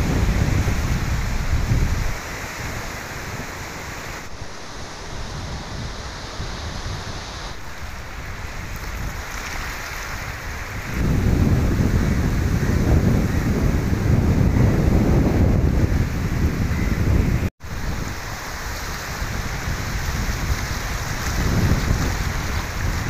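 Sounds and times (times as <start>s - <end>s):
sea surf breaking: 0.0s - 23.0s
wind buffeting microphone: 0.0s - 23.0s.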